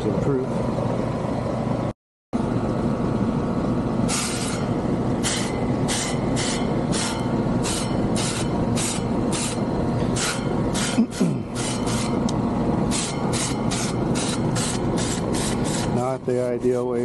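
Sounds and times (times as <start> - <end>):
air conditioner unit rumbling: 0.0 - 17.0.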